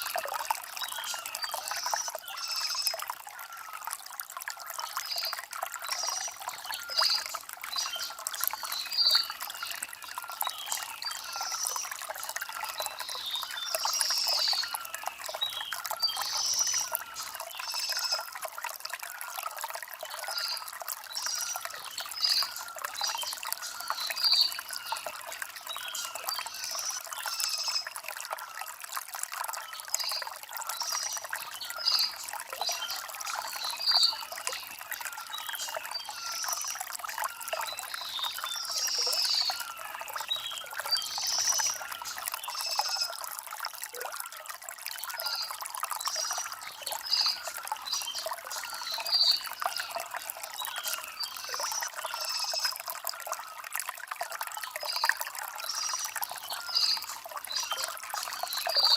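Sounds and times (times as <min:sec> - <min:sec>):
stream trickling over stones: 0:00.0 - 0:58.9.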